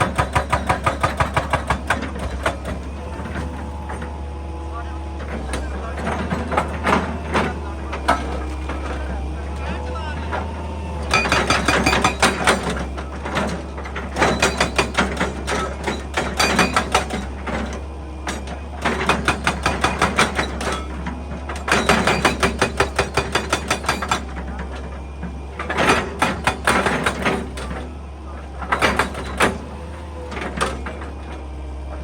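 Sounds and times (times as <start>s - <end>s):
hydraulic rock breaker hammering: 0.0s - 32.0s.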